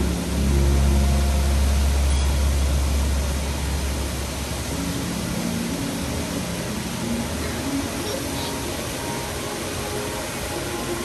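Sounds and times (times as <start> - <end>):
fountain jets hissing: 0.0 - 11.0.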